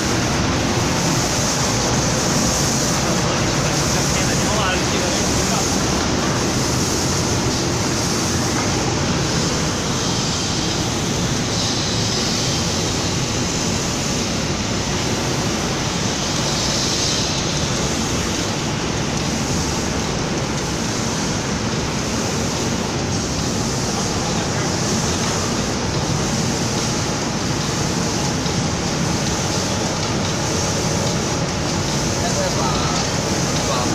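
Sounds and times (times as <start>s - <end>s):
machinery and moving air: 0.0s - 33.9s.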